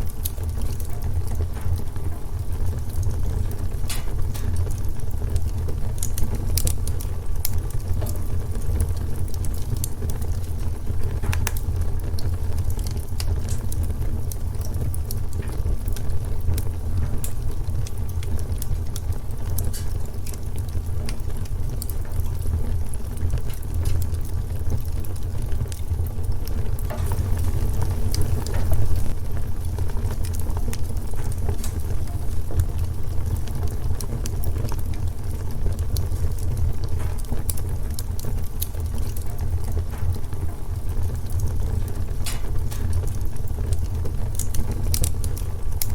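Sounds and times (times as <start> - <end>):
low rumble of flames: 0.0 - 45.9
wood fire crackling: 0.0 - 45.9.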